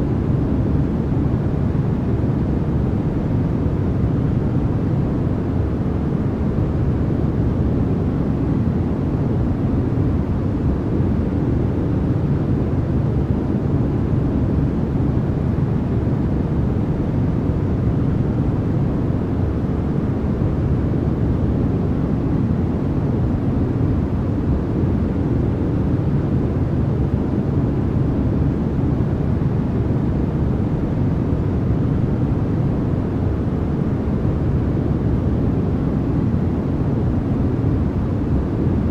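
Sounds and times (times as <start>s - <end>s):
deep white noise: 0.0s - 38.9s.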